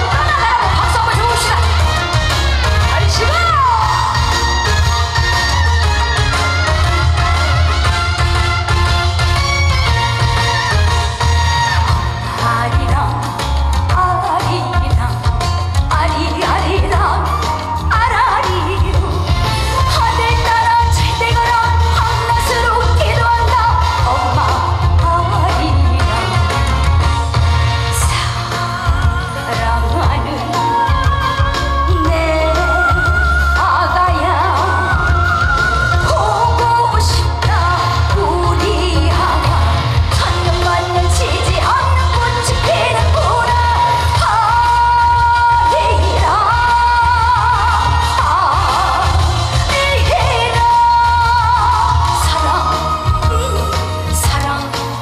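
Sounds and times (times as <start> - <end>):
band accompaniment with heavy bass: 0.0 - 55.0
woman singing: 0.0 - 55.0.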